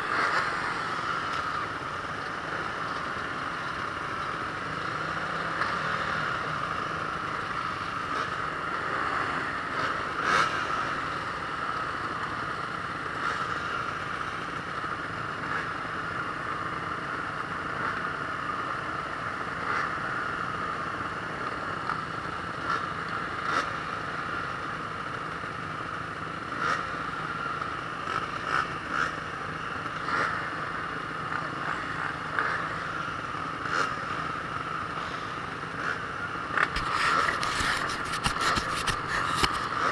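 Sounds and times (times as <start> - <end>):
motocross engine running: 0.0 - 39.9.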